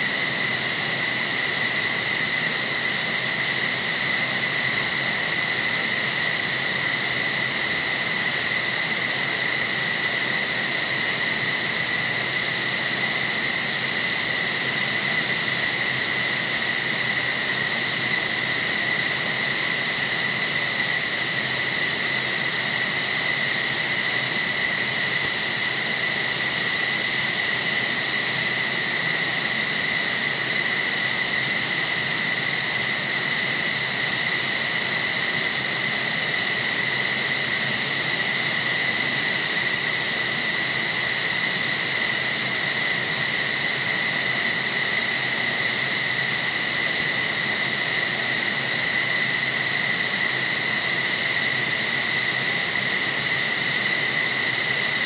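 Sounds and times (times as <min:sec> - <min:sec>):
high turbine whine: 0:00.0 - 0:55.0.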